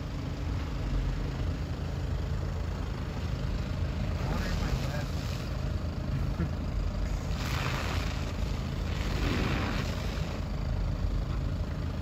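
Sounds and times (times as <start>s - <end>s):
motorboat engine idling: 0.0s - 12.0s.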